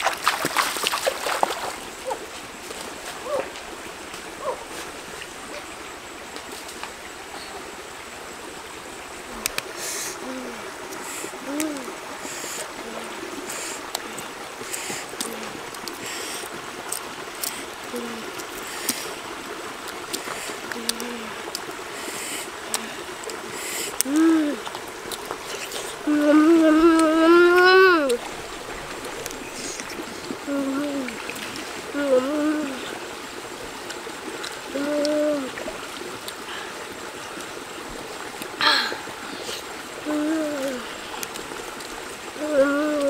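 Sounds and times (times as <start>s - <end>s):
river running over rocks: 0.0s - 43.0s.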